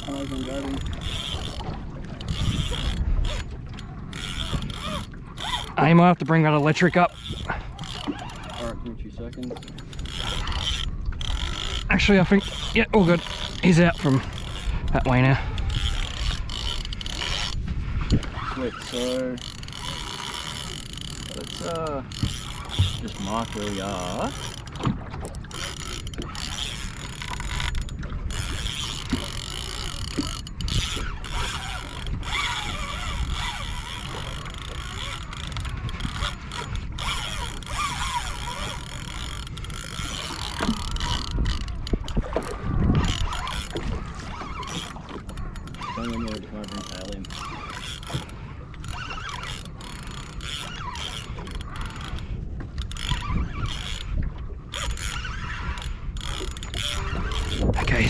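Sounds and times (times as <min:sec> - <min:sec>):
fishing reel clicking: 0:00.0 - 0:57.8
wind and water rumble: 0:00.0 - 0:58.0.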